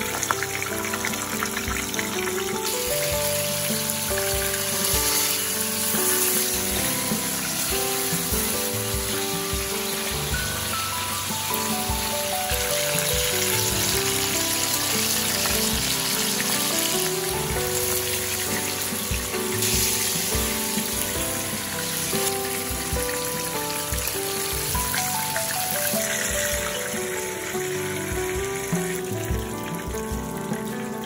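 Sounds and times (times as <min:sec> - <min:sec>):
background music: 0:00.0 - 0:31.0
fish sizzling in hot oil: 0:00.0 - 0:31.0.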